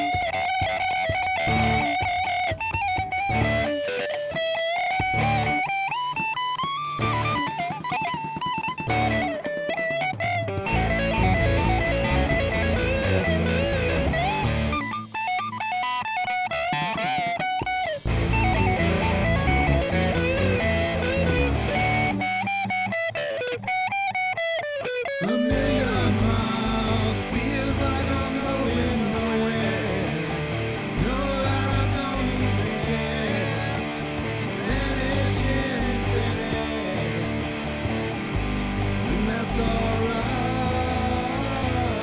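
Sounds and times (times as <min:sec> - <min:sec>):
electric guitar lead melody: 0:00.0 - 0:42.0
rock band backing: 0:00.0 - 0:42.0.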